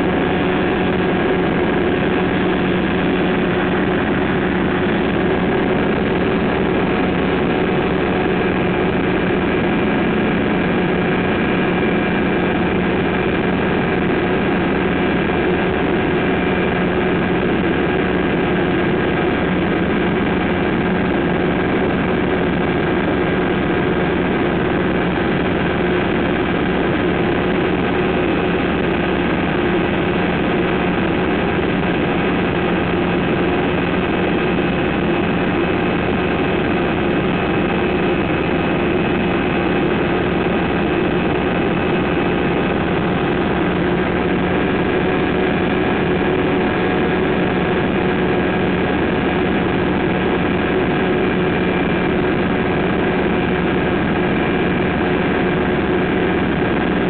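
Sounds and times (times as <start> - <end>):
aircraft engine droning: 0.0 - 57.0
rushing wind noise: 0.0 - 57.0.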